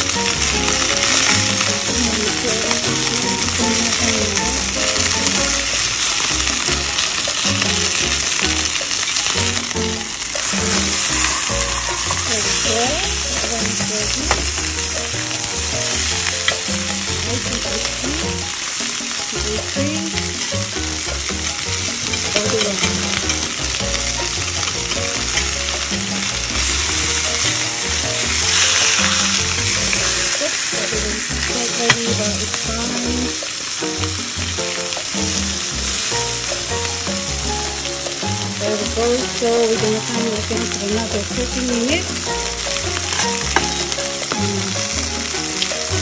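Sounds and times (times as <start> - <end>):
fish sizzling in a skillet: 0.0 - 46.0.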